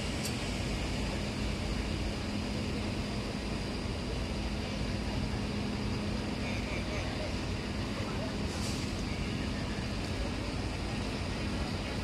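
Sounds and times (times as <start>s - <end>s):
ferry machinery drone: 0.0s - 12.0s.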